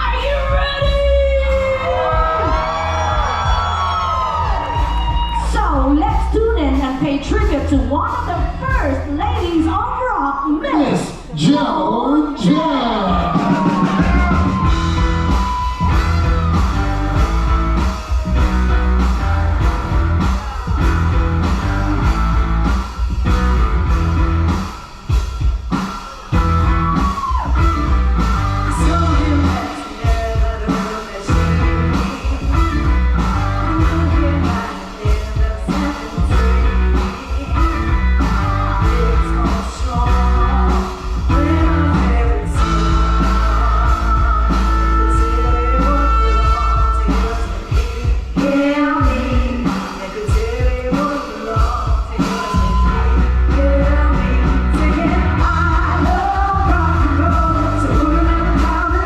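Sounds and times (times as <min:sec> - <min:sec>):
rock song over sound system: 0:00.0 - 0:59.0.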